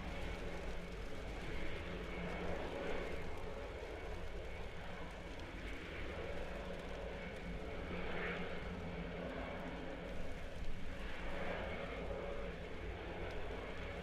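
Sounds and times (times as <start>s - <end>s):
aircraft engines droning with whine: 0.0s - 14.0s.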